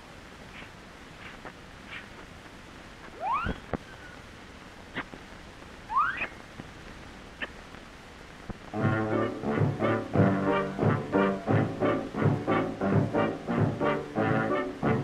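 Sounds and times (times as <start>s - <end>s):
soundtrack hiss: 0.0s - 15.0s.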